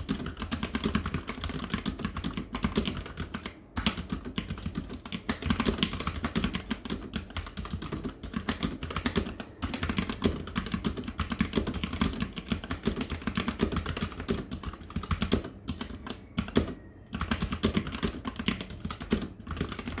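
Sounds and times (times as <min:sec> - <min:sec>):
fast typing on mechanical keyboard: 0:00.0 - 0:20.0.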